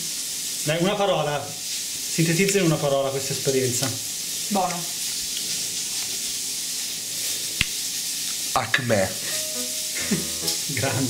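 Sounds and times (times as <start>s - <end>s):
food sizzling in lard: 0.0s - 11.0s.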